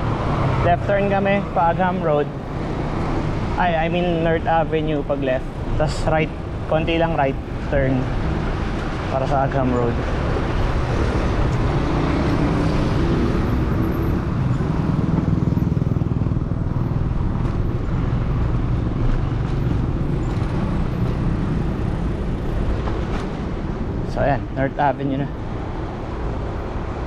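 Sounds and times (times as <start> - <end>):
motor traffic: 0.0 - 27.0
vehicle engine hum: 0.0 - 27.0.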